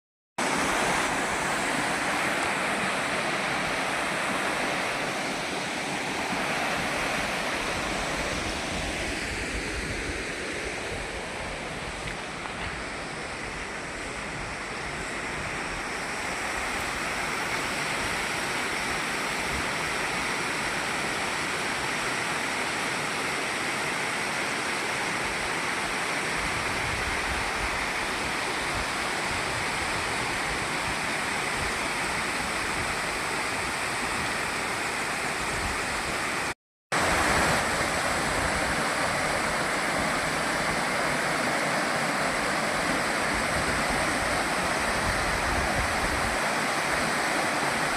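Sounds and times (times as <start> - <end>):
waterfall rushing: 0.4 - 47.9.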